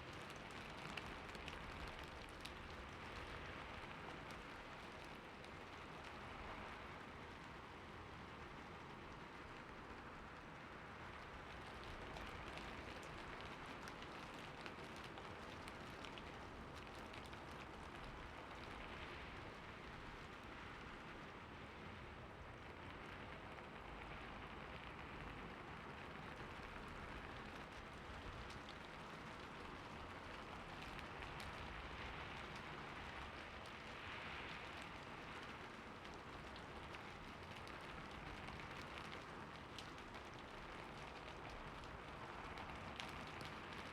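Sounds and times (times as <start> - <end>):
light rain pattering: 0.0 - 43.9.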